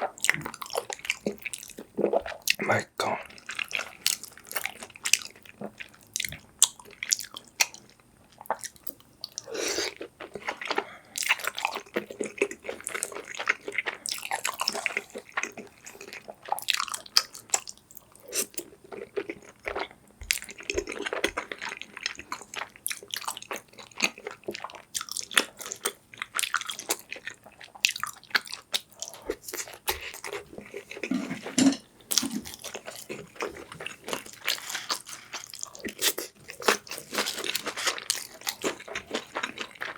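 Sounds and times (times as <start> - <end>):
person chewing food: 0.0 - 2.6, 3.2 - 39.9.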